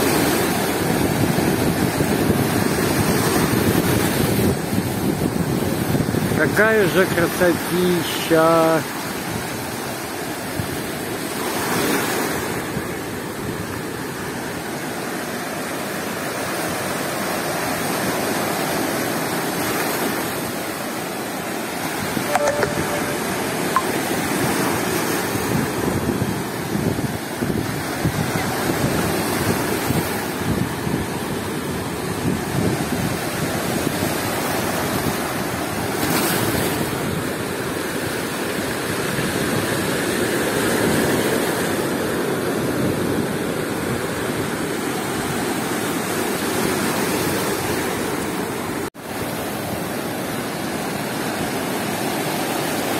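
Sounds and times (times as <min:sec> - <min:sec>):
waves breaking on rocks: 0:00.0 - 0:23.1, 0:24.1 - 0:52.9.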